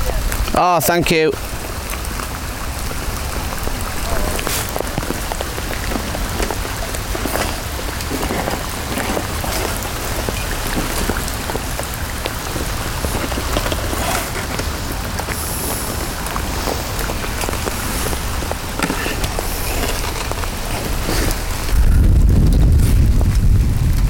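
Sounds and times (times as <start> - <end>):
heavy rain on plastic: 0.0 - 24.0.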